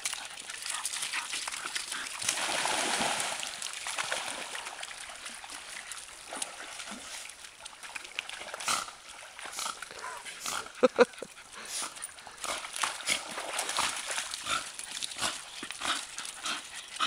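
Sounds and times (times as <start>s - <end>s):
dogs splashing in a stream: 0.0s - 17.0s
running water: 0.0s - 17.0s.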